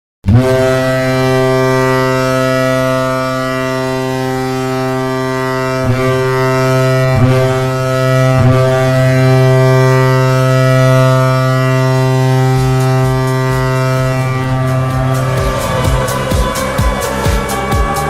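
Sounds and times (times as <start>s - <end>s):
hockey goal horn blast: 0.3s - 18.0s.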